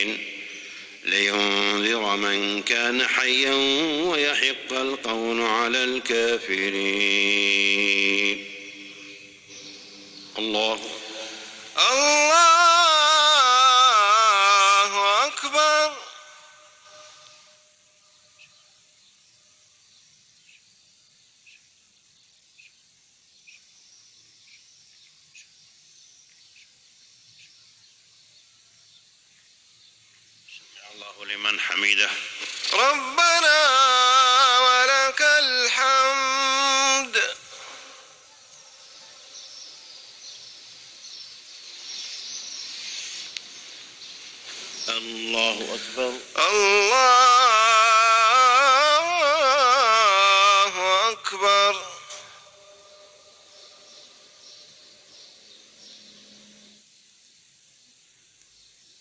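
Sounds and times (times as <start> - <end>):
small birds chirping: 0.0 - 36.1, 36.8 - 59.0.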